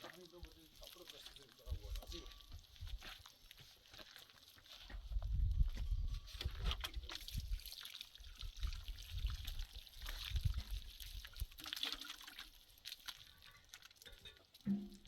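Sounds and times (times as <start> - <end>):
water trickling: 0.0 - 4.7, 6.4 - 15.0.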